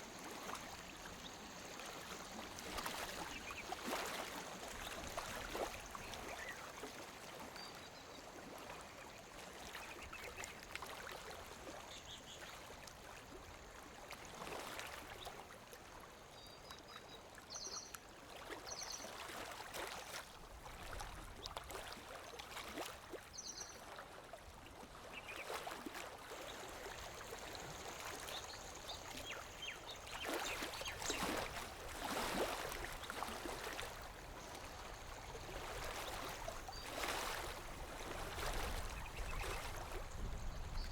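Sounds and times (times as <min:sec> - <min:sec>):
lake water lapping on shore: 0:00.0 - 0:16.2, 0:17.2 - 0:40.9.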